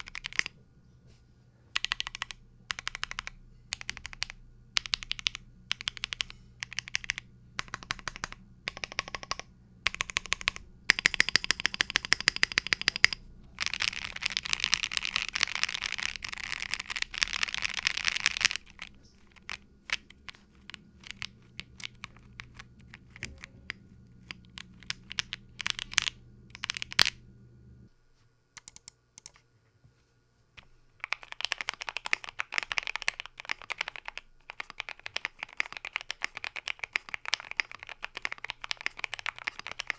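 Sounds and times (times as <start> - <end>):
mechanical keyboard typing: 0.0 - 0.6, 1.8 - 27.2, 28.6 - 29.4, 31.0 - 39.9.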